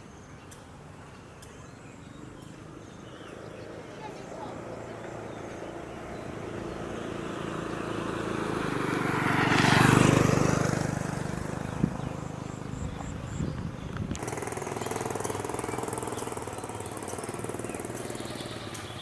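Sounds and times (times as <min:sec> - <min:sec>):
motor vehicle passing by: 0:01.7 - 0:19.0.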